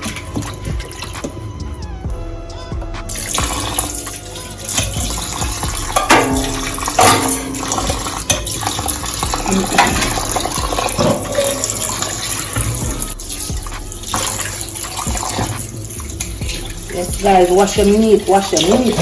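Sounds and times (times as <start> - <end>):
tap water running into a sink: 0.0 - 1.6, 3.1 - 19.0.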